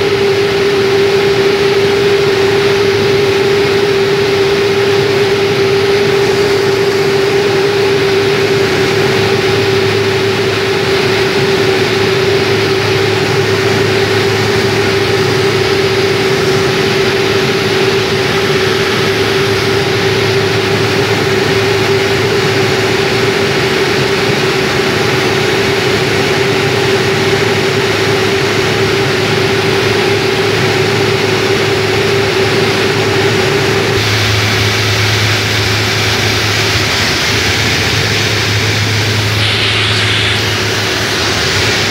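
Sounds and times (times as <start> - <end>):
propeller airplane cabin drone: 0.0 - 41.9.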